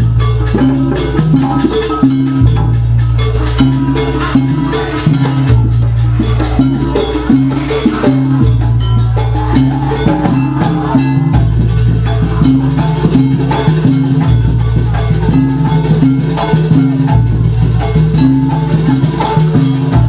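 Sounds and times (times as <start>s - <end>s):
drum and rattle strokes: 0.0s - 20.0s
percussion ensemble music: 0.0s - 20.0s.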